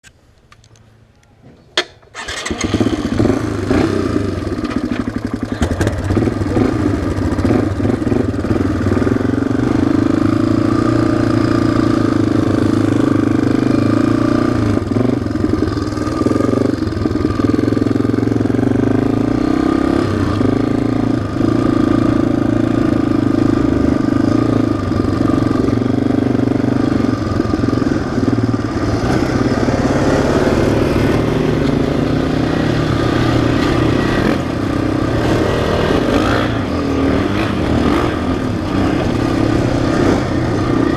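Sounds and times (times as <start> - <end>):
single-cylinder engine running: 2.2 - 40.9.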